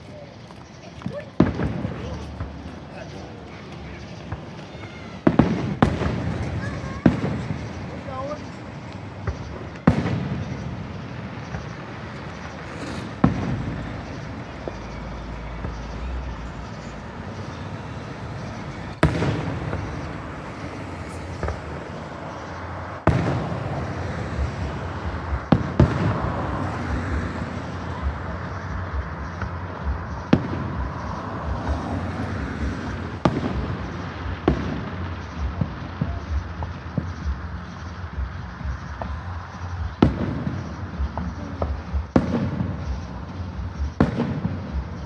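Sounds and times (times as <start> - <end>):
fireworks bursting: 0.0 - 45.0
steady background noise: 0.0 - 45.0.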